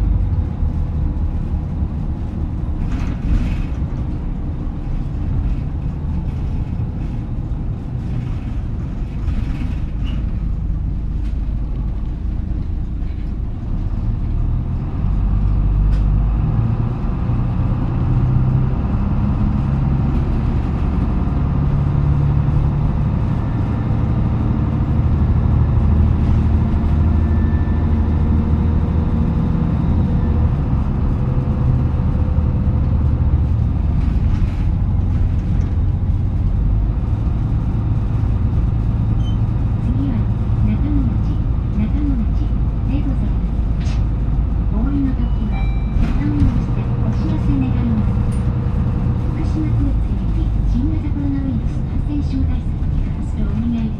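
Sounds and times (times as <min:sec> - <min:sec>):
bus engine running: 0:00.0 - 0:53.9.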